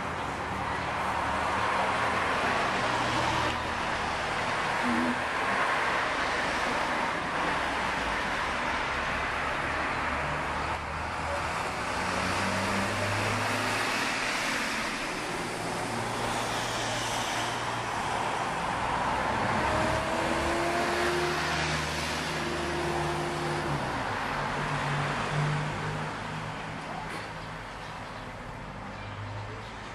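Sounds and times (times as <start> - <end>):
highway traffic passing: 0.0 - 29.9.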